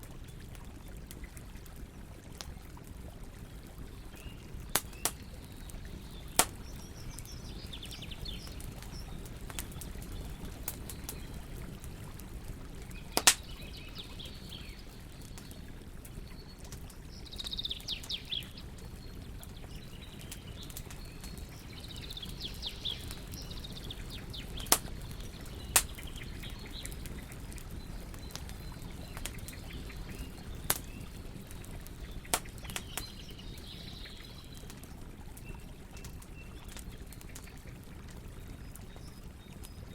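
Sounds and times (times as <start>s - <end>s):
campfire crackling: 0.0s - 39.9s
small birds chirping: 3.4s - 39.9s.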